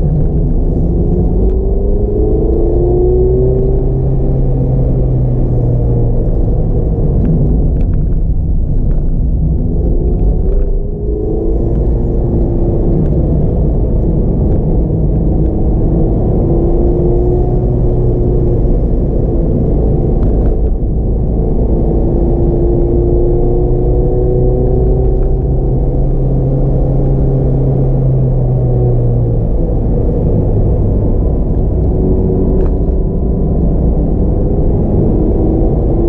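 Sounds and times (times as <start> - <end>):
car engine accelerating: 0.0 - 36.0
road and tyre rumble: 0.0 - 36.0.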